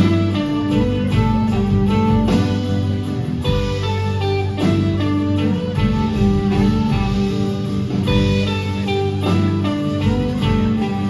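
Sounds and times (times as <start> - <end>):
electric guitar: 0.0 - 11.0
folk-rock band playing: 0.0 - 11.0.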